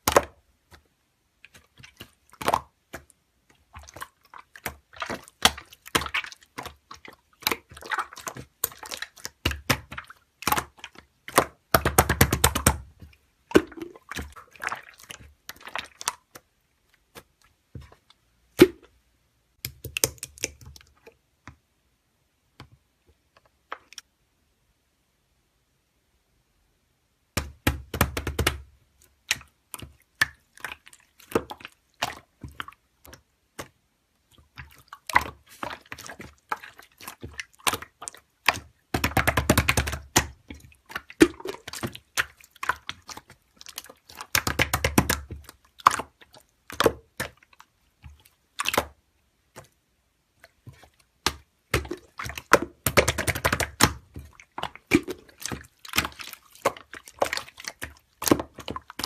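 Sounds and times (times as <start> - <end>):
slime squishing by hand: 0.0 - 21.7, 27.2 - 59.0.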